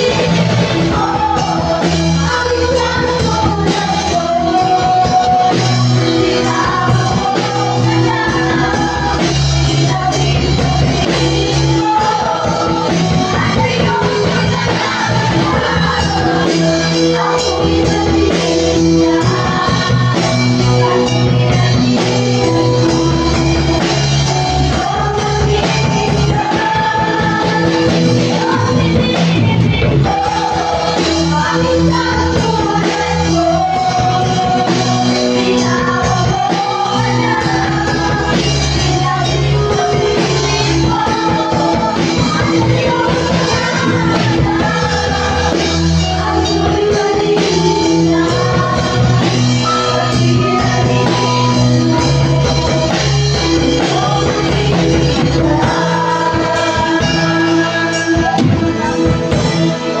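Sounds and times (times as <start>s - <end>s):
drums: 0.0s - 60.0s
guitar: 0.0s - 60.0s
keyboard chords: 0.0s - 60.0s
people singing: 0.0s - 60.0s.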